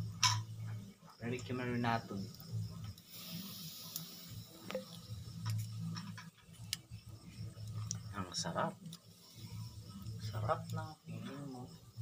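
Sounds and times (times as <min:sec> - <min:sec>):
charcoal fire crackling: 0:00.0 - 0:12.0.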